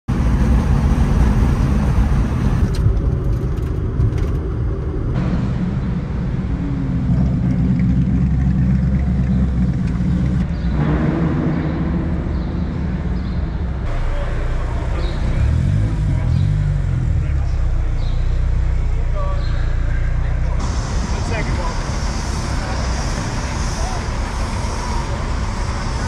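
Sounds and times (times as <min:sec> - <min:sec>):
car engine and road rumble: 0:00.1 - 0:26.0.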